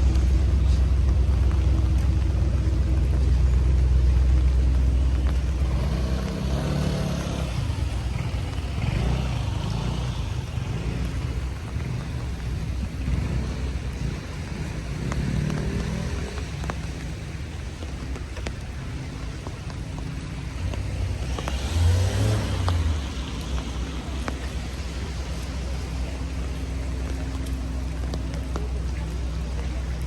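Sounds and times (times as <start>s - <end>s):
low rumble of traffic: 0.0s - 30.0s
rain falling on street: 0.0s - 30.0s
vehicle passing on wet road: 0.0s - 30.0s.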